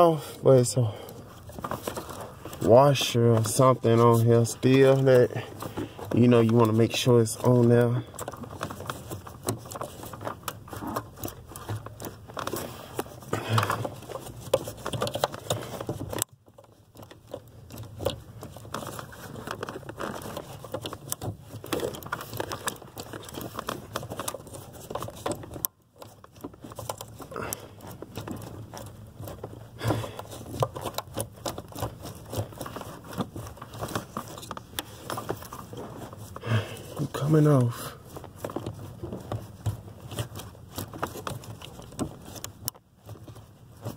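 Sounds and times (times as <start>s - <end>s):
hands rustling against wiring: 0.0s - 43.9s
small clicks and crinkles: 0.0s - 43.9s.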